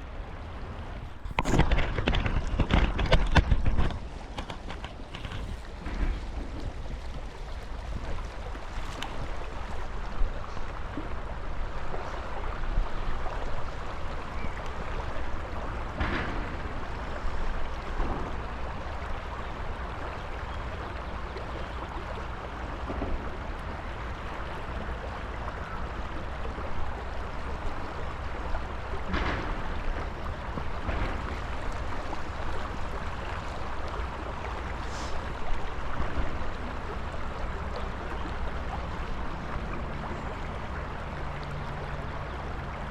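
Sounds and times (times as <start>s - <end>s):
river water flowing: 0.0s - 42.9s.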